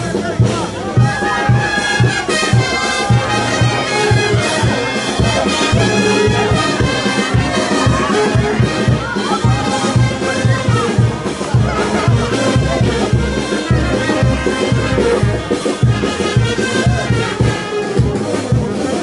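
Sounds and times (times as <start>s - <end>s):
live brass band dance music: 0.0s - 19.0s.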